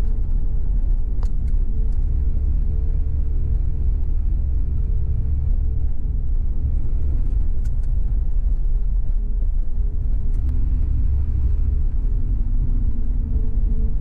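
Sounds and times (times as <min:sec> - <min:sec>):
road rumble: 0:00.0 - 0:14.0.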